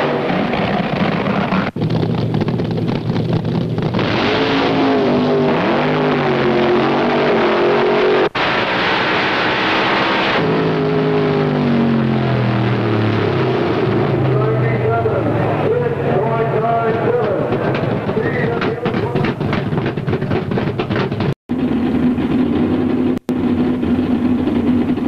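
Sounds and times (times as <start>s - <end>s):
drag racing car engines: 0.0s - 25.0s.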